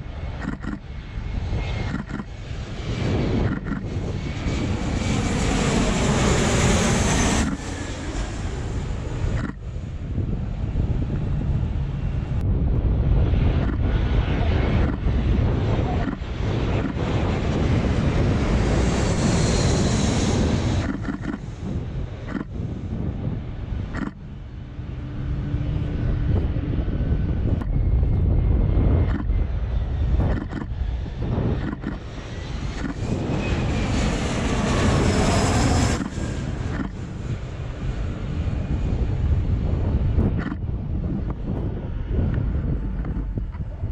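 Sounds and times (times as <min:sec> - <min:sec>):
high turbine whine: 0:00.0 - 0:43.9
jet airliner engine rush: 0:00.0 - 0:43.9
wind buffeting microphone: 0:00.0 - 0:43.9.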